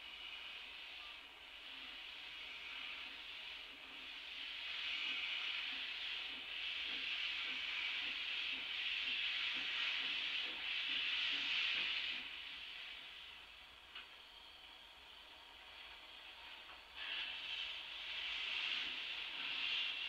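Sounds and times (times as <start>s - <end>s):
steam locomotive hissing: 0.0s - 14.0s, 14.6s - 20.0s.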